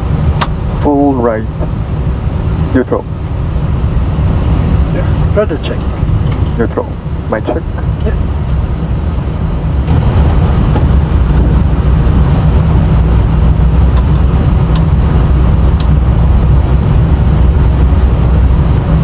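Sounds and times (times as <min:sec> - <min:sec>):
jet engines idling rumble: 0:00.0 - 0:19.0.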